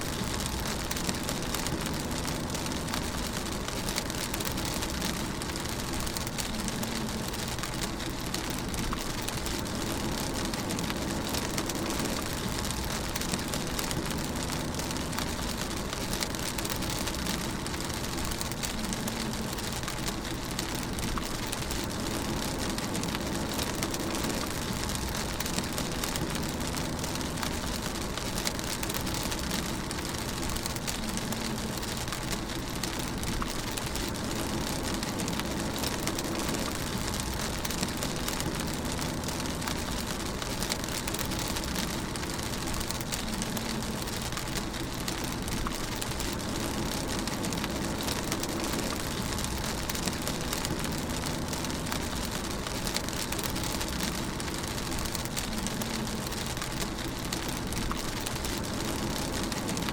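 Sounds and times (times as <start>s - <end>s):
car and road rumble: 0.0s - 59.9s
rain on a car roof: 0.0s - 59.9s.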